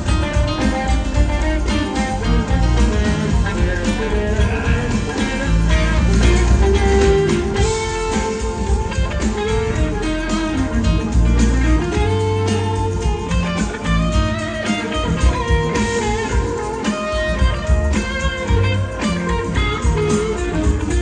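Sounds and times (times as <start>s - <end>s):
electric guitar sliding melody: 0.0s - 21.0s
live rock band playing: 0.0s - 21.0s.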